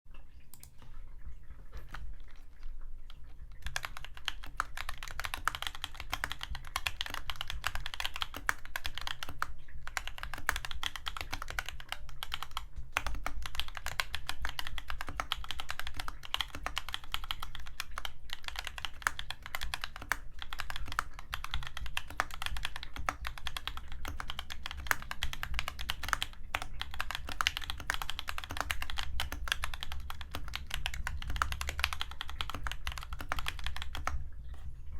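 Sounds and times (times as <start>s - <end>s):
typing on mechanical keyboard: 1.6s - 34.3s.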